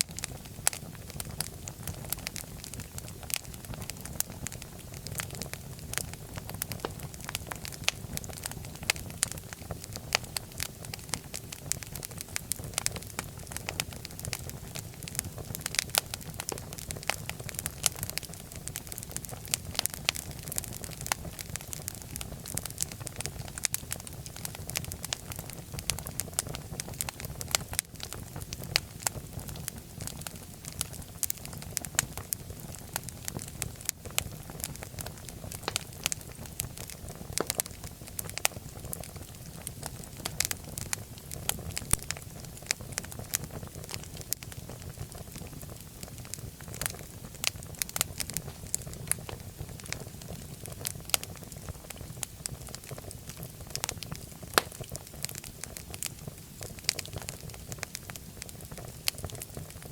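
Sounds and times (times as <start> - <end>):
fire crackling in a fireplace: 0.0 - 59.9
low rumble of flames: 0.0 - 59.9.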